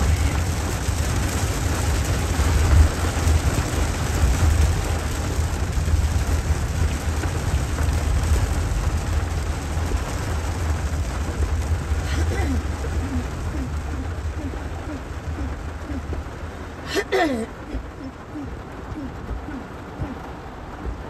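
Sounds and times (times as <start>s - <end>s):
heavy rain on car roof: 0.0s - 21.0s
steady low rumble: 0.0s - 21.0s.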